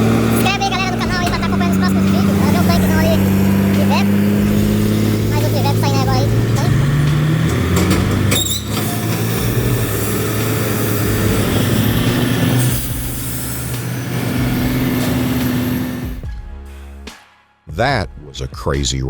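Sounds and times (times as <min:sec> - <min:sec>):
road rumble noise: 0:00.0 - 0:16.3
truck engine droning: 0:00.0 - 0:16.3.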